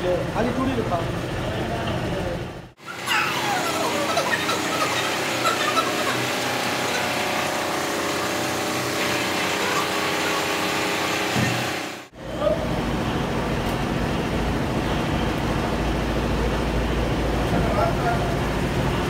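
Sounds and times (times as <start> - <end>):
machine hum with held tones: 2.8 - 19.0.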